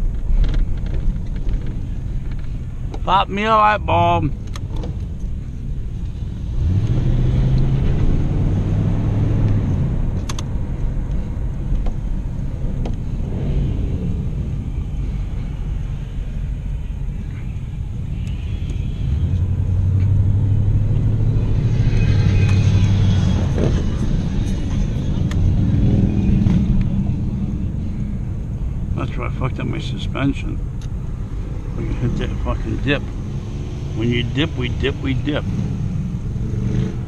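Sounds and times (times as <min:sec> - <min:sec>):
car engine drone: 0:00.0 - 0:37.0
road noise: 0:00.0 - 0:37.0.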